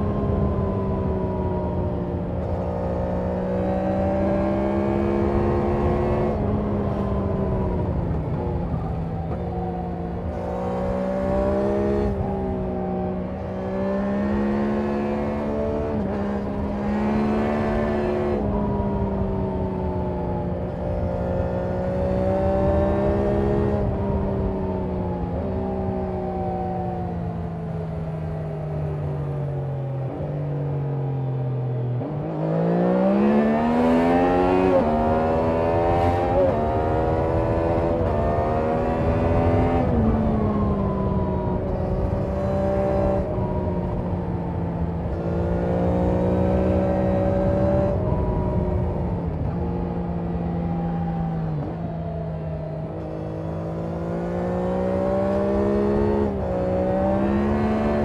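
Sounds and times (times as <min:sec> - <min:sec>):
motorcycle engine and exhaust: 0:00.0 - 0:58.0.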